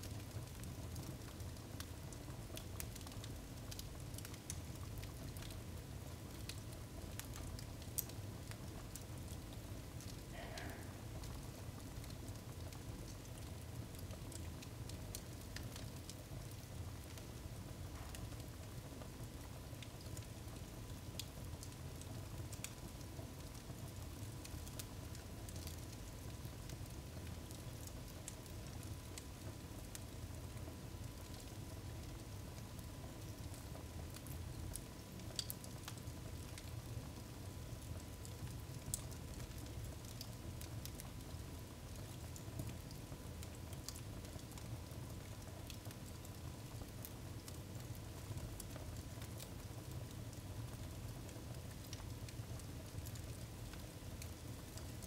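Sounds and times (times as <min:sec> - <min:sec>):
firewood crackling and popping: 0:00.0 - 0:55.0.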